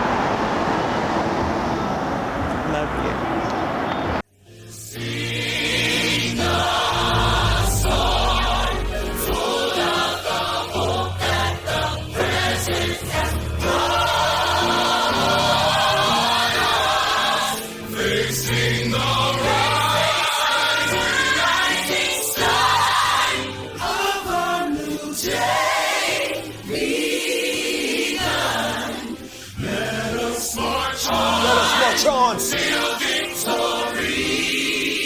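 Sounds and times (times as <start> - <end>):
choir singing gospel: 0.0 - 35.0.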